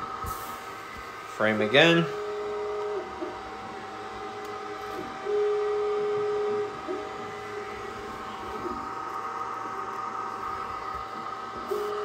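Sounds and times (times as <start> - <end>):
steady hum: 0.0 - 12.0
stepper motors whining: 0.0 - 12.0.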